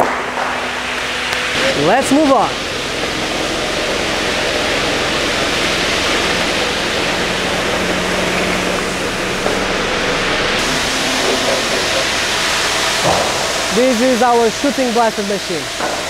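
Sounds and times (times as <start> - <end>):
factory floor rushing noise: 0.0 - 16.0
forklift engine hum: 0.0 - 16.0.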